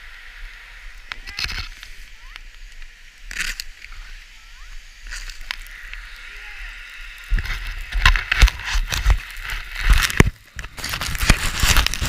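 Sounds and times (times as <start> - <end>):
skis scraping over snow: 0.0 - 12.0.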